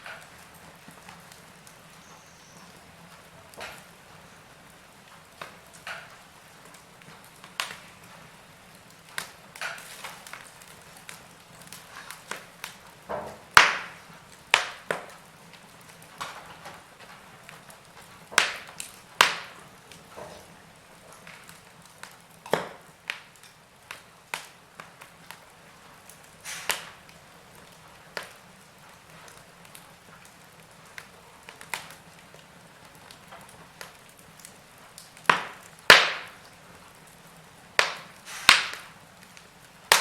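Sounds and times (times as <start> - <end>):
pops and snaps of burning logs: 0.0 - 40.0
wood fire burning: 0.0 - 40.0.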